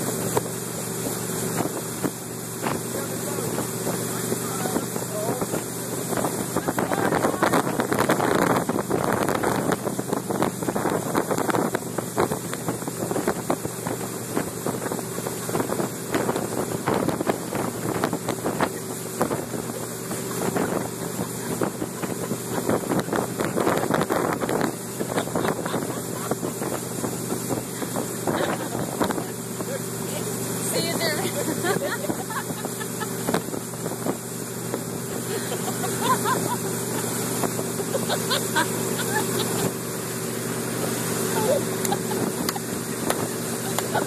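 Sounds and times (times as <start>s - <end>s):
motorboat engine running: 0.0s - 44.0s
rushing wake water: 0.0s - 44.0s
wind buffeting microphone: 0.3s - 44.0s.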